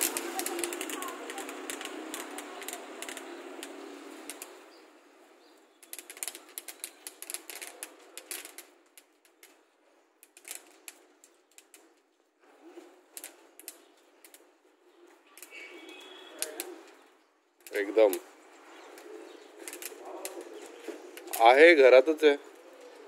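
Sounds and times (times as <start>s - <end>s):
grains ticking on corrugated roof: 0.0s - 23.0s
rustling: 0.0s - 23.0s.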